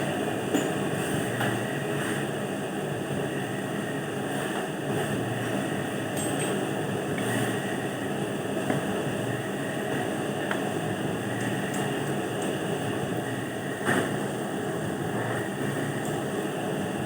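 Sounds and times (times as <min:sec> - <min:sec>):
machine running steadily: 0:00.0 - 0:17.0.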